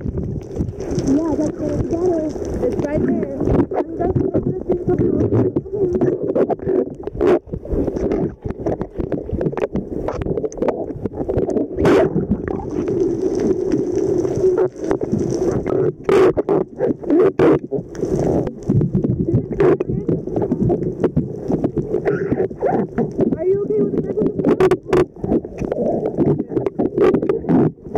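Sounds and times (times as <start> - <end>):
muffled underwater rumble: 0.0 - 27.9.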